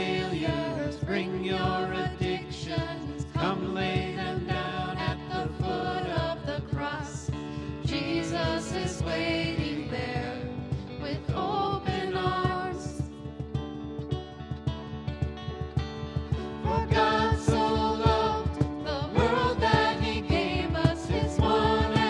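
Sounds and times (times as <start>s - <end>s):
voices singing together: 0.0s - 13.1s, 16.4s - 22.0s
acoustic guitar: 0.0s - 22.0s.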